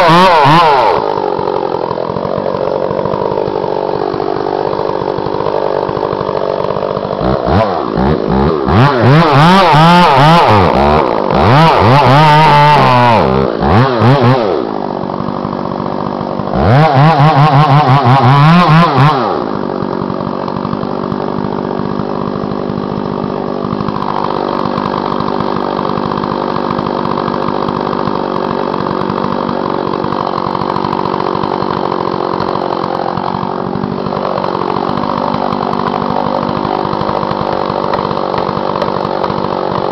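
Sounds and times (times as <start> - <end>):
chainsaw idling: 0.0 - 39.9
chainsaw revving cutting wood: 0.0 - 39.9.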